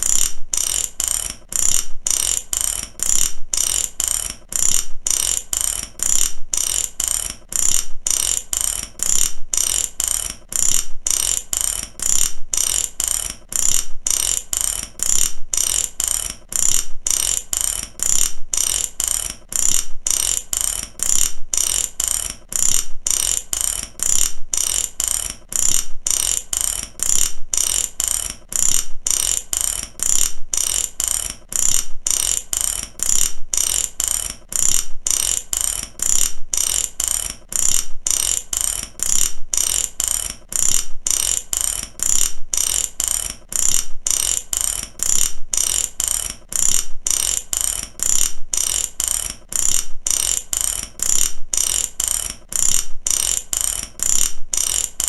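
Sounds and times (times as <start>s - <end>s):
ratchet wrench clicking: 0.0s - 55.0s.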